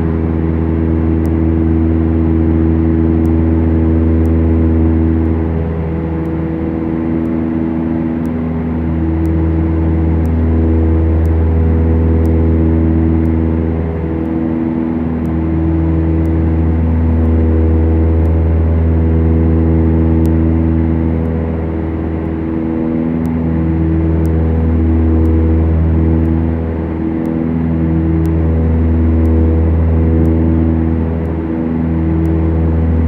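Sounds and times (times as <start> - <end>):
aircraft engines droning: 0.0 - 33.0.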